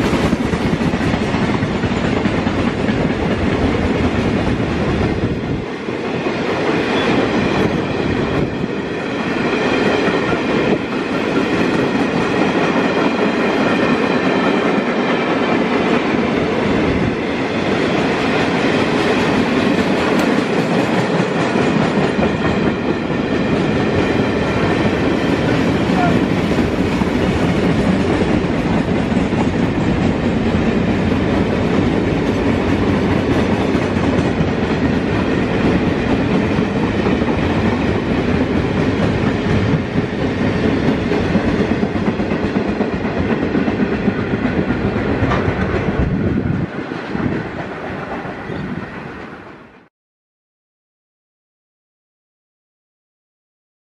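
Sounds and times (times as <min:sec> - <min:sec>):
freight train wheels rumbling and rattling: 0:00.0 - 0:49.5.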